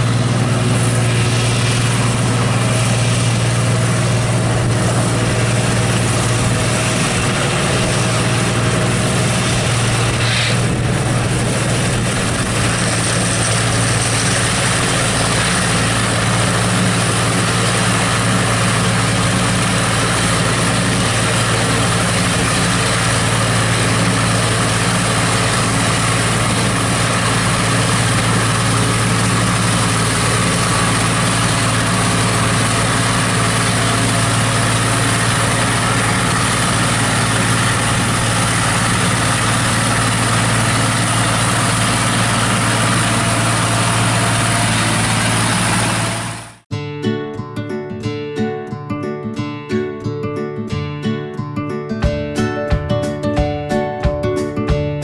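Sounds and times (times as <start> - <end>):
chopper whirring: 0.0 - 46.6
loud engine drone: 0.0 - 46.7.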